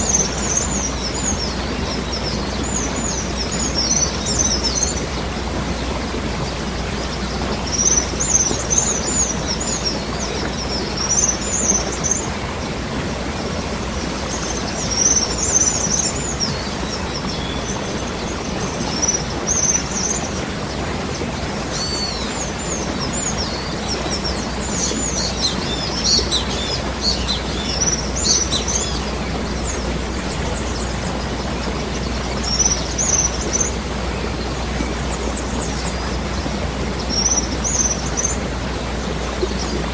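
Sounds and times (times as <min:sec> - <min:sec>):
small birds chirping: 0:00.0 - 0:12.5, 0:13.4 - 0:39.9
waterfall rushing: 0:00.0 - 0:39.9.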